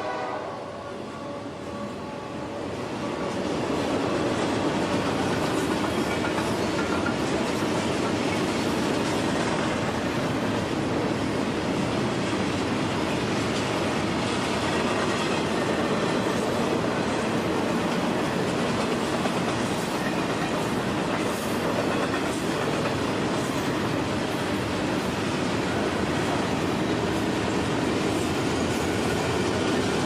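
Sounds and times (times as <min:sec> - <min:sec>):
freight train cars rolling past: 0:00.0 - 0:30.0.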